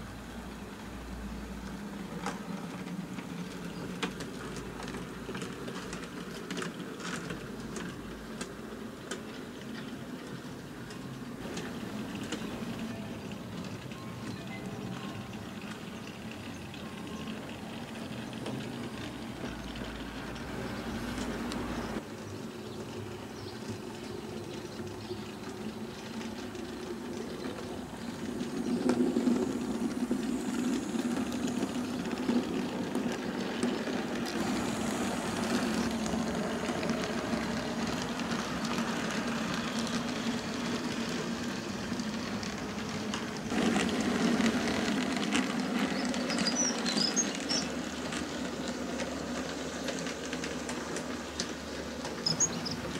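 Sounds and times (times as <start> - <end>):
model train motor hum: 0.0 - 22.0, 23.0 - 52.9
wheels rattling over rails: 0.0 - 52.9.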